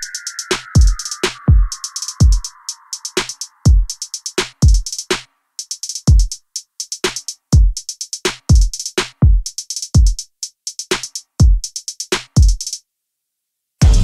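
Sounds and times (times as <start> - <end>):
quick hi-hat hits: 0.0 - 12.8.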